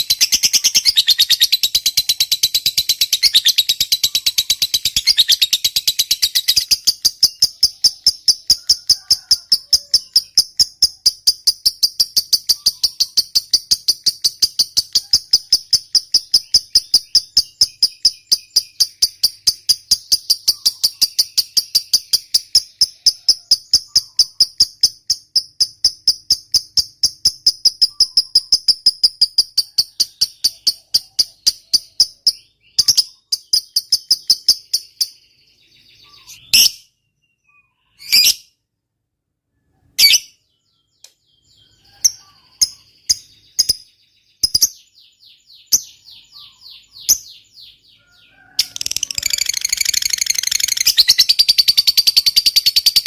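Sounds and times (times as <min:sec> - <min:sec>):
lovebird chattering trill: 0:00.0 - 0:35.2, 0:35.8 - 0:36.9, 0:39.8 - 0:53.0
bird sharp calls and chirps: 0:00.0 - 0:38.6, 0:39.5 - 0:53.0.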